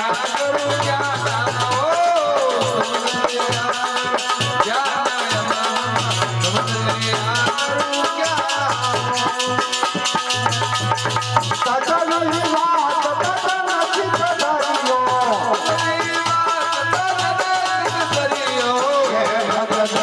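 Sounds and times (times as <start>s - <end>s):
devotional instrumental music: 0.0s - 20.0s
rattling percussion beat: 0.0s - 20.0s.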